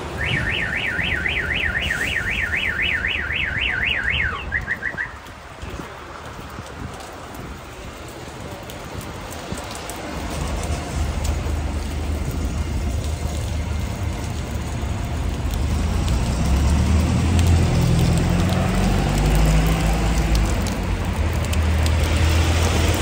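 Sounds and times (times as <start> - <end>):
water running down metal downpipe: 0.0 - 23.0
dripping ticks: 0.1 - 23.0.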